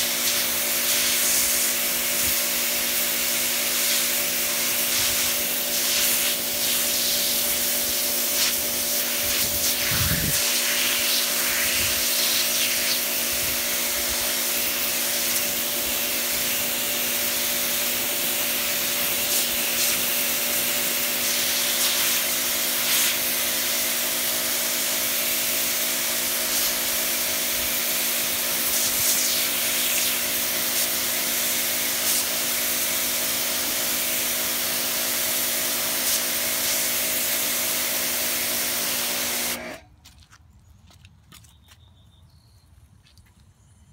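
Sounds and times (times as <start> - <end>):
water jet spraying on stone: 0.0 - 39.8
pressure washer motor hum: 0.0 - 39.9.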